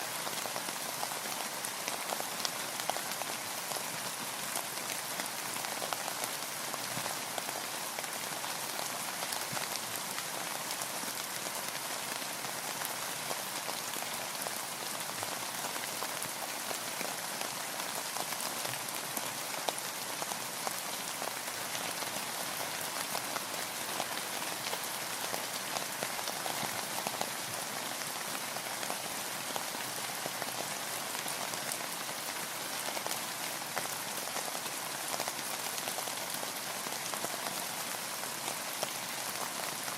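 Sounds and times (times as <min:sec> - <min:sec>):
rain falling on a boat: 0:00.0 - 0:39.9.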